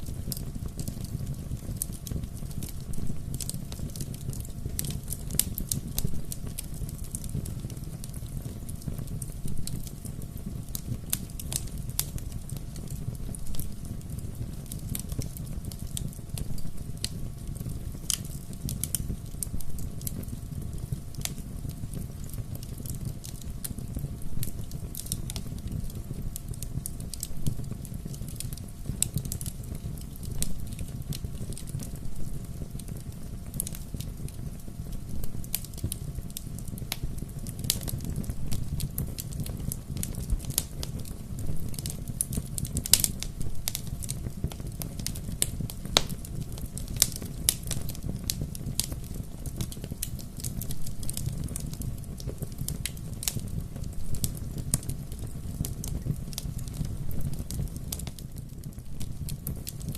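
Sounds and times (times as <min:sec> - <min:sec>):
fire snaps and pops: 0:00.0 - 0:59.9
low rumble of burning: 0:00.0 - 0:59.9
wood fire crackling: 0:00.0 - 0:59.9.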